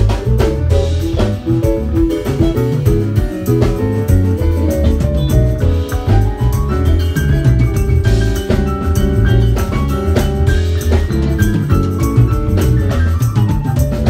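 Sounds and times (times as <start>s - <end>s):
drum kit: 0.0s - 14.0s
electric bass: 0.0s - 14.0s
electric guitar: 0.0s - 14.0s
keyboard: 0.0s - 14.0s.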